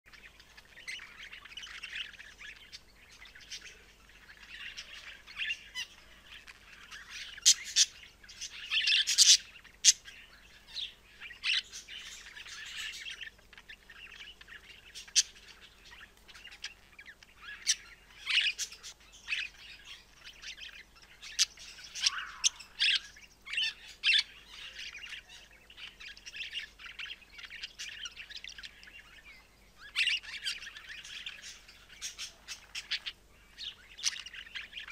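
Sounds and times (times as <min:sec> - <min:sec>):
budgerigar warbling and chirping: 0:00.1 - 0:34.9.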